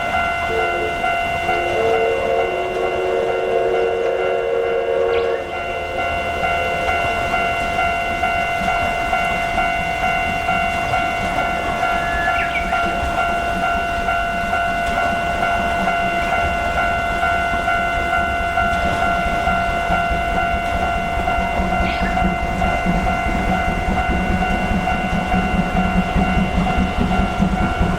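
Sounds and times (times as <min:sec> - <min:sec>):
level crossing warning bell: 0:00.0 - 0:27.9
train rumbling past: 0:00.0 - 0:27.9.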